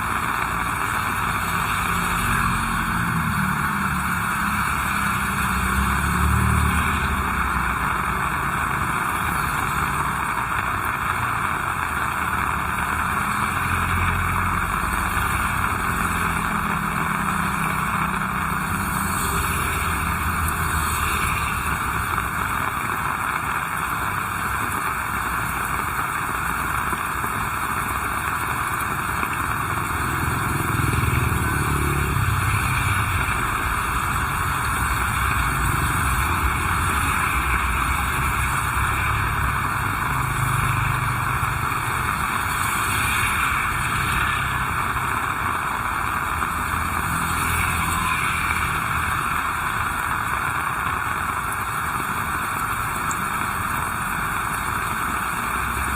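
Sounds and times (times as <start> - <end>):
heavy rain falling: 0.0 - 55.9
road traffic rumble: 0.0 - 55.9.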